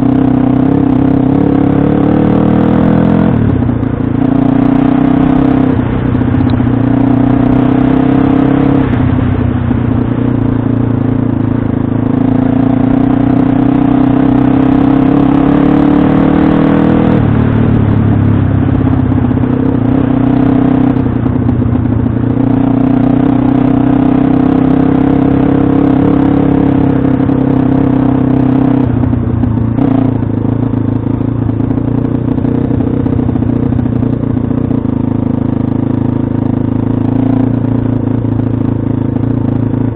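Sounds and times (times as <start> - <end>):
motorbike engine running hard: 0.0 - 39.9.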